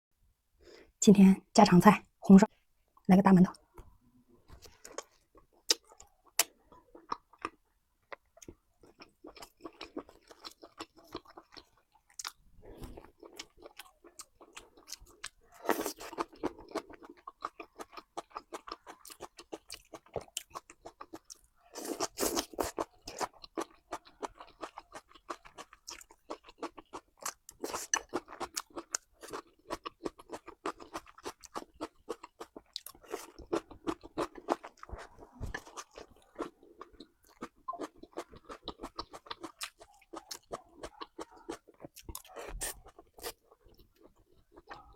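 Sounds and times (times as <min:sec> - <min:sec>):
crunchy chewing and biting: 0:04.8 - 0:44.9.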